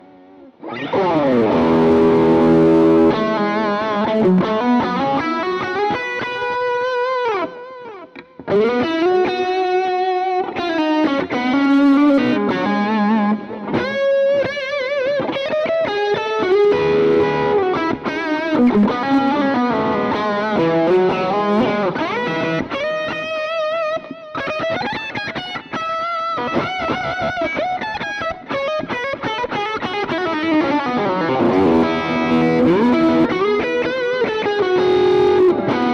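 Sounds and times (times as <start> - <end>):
electric guitar lead lines: 0.0 - 35.9.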